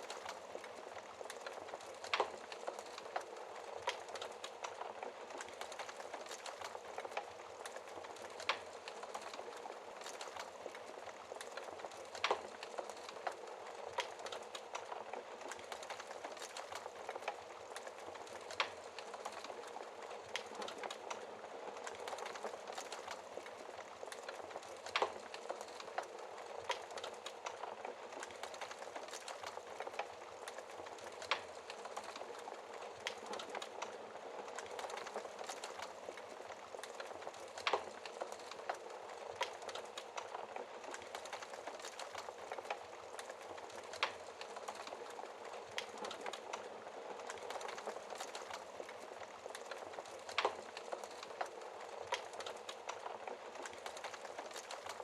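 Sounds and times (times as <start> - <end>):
fire crackling and popping: 0.0 - 55.0
sharp fire snaps: 0.0 - 55.0.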